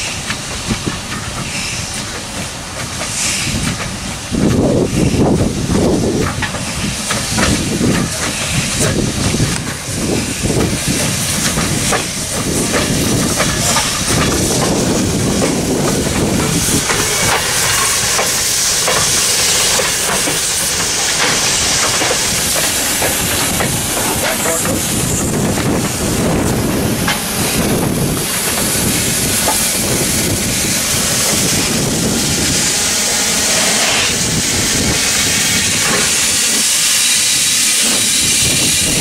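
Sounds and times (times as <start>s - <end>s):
steam hissing: 0.0s - 39.0s
locomotive wheels clattering: 0.1s - 33.4s.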